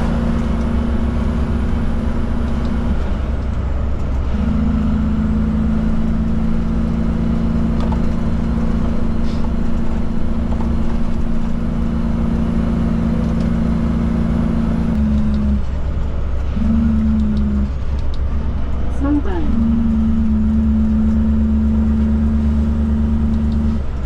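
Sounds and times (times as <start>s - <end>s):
diesel truck engine rumbling: 0.0s - 24.0s.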